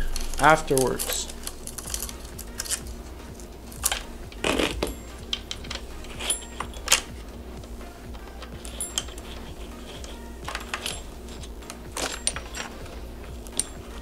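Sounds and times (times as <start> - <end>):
saw chain clinking and rattling: 0.0 - 14.0.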